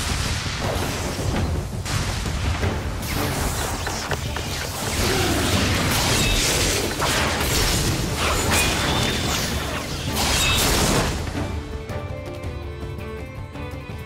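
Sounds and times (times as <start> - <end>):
sharp hits and booms: 0.0 - 11.5.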